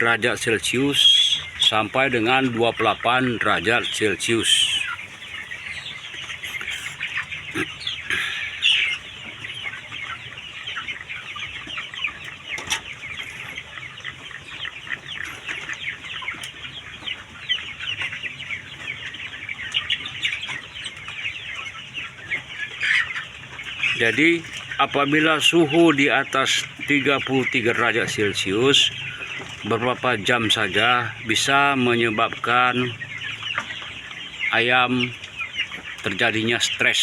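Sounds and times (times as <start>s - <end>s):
chickens calling: 0.0s - 37.0s.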